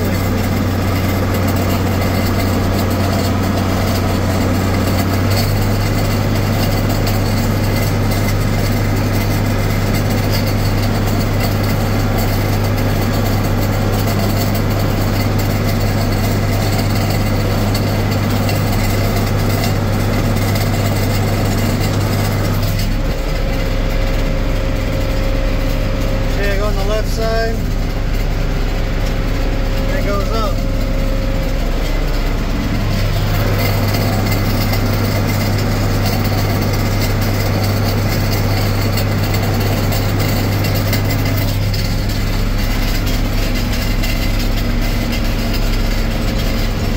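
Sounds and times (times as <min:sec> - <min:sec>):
baler rolling hay: 0:00.0 - 0:46.9
tractor diesel engine running: 0:00.0 - 0:46.9.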